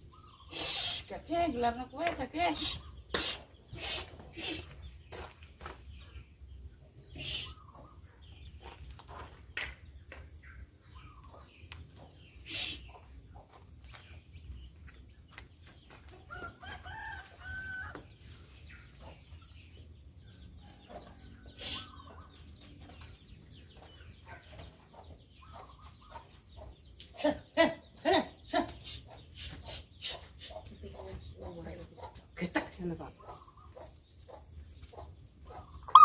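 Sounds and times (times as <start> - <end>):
faint chickens clucking: 0.0 - 36.0.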